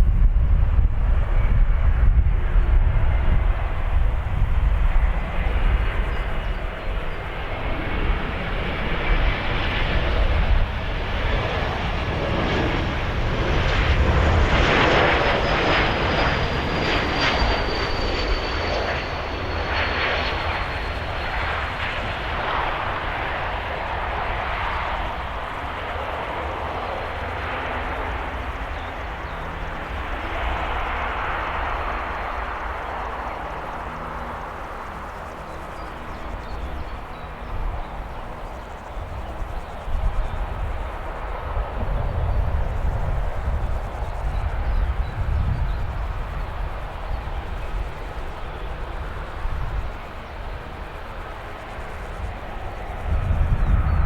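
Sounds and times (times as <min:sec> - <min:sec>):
high jet whine falling in pitch: 0:00.0 - 0:54.0
jet engines running loud: 0:00.0 - 0:54.0.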